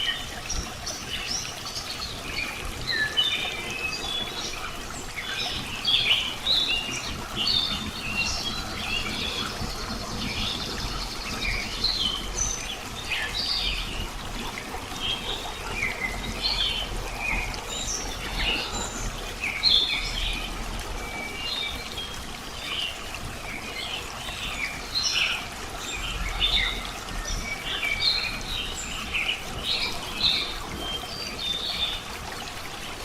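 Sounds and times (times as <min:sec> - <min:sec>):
small birds chirping: 0:00.0 - 0:32.1
trickle of running water: 0:00.0 - 0:33.0.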